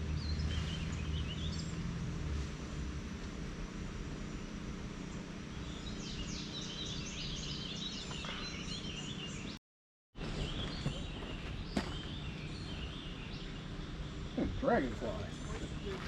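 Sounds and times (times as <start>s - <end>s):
songbird chirping: 0.0s - 1.9s, 4.3s - 9.6s, 10.2s - 16.0s.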